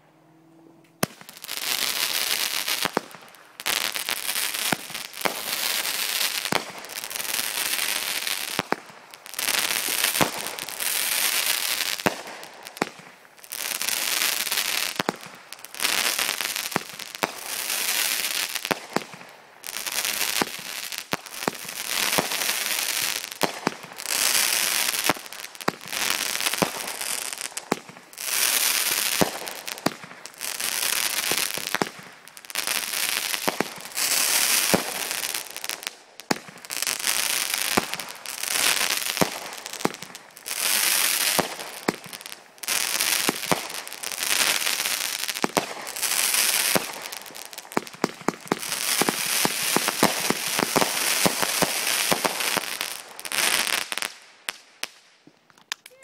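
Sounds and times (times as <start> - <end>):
fireworks popping and cracking: 0.9 - 56.0.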